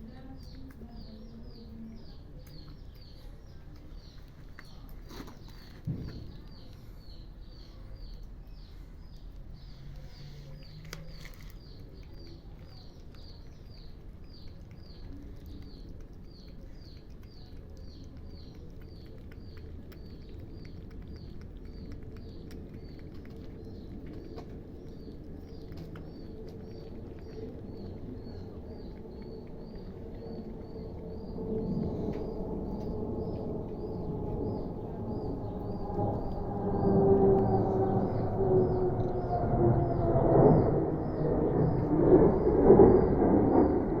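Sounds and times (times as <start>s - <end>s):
bird chirping: 0.0s - 43.9s
low background noise: 0.0s - 44.0s.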